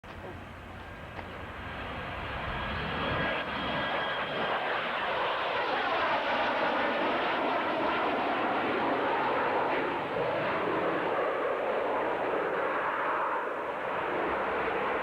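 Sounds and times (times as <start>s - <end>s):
airplane flying past: 0.3s - 15.0s.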